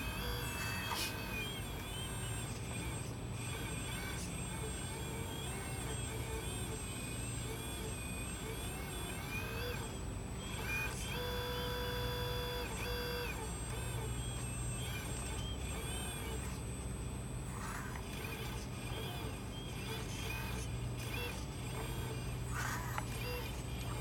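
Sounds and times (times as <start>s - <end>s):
hydraulic pump whining: 0.0s - 24.0s.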